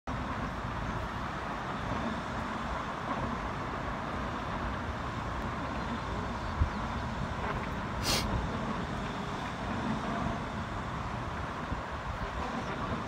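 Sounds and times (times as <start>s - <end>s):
road traffic: 0.1s - 13.0s
wind: 0.1s - 13.0s.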